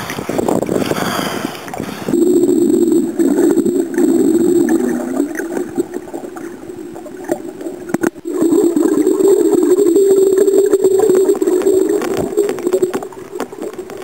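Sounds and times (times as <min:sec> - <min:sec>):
muffled underwater water rush: 0:00.0 - 0:14.0
underwater clicks and gurgles: 0:00.0 - 0:14.0.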